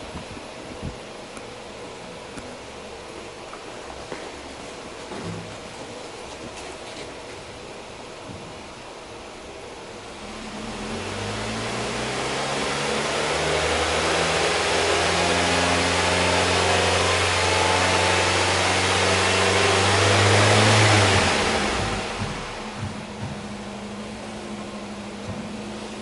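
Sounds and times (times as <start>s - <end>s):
minivan engine humming: 0.0s - 26.0s.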